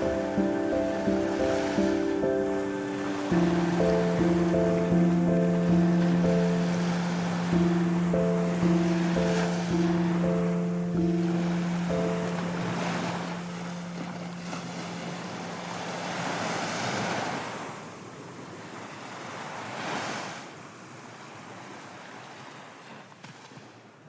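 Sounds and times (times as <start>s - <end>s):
sea waves surging: 0.0s - 22.8s.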